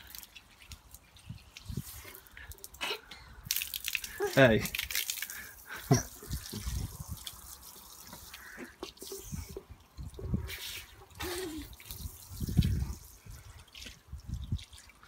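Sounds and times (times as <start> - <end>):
water dribbling from hose nozzle: 0.0 - 15.0.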